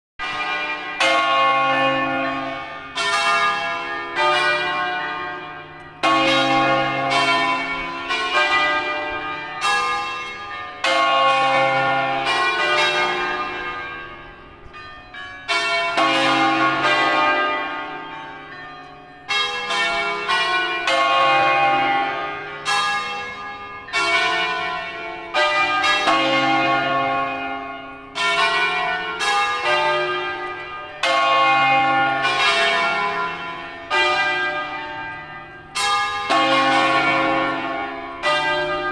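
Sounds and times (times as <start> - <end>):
church bells ringing: 0.2 - 38.9.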